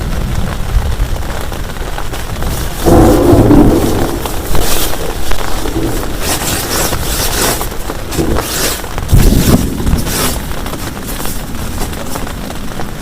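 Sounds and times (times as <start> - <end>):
heavy rain pouring: 0.0 - 13.0
low rumble of thunder: 0.0 - 13.0.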